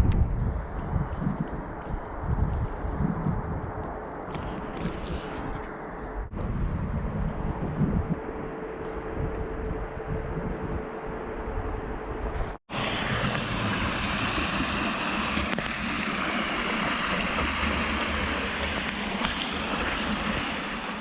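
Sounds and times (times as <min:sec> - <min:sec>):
rushing wind noise: 0:00.0 - 0:21.0.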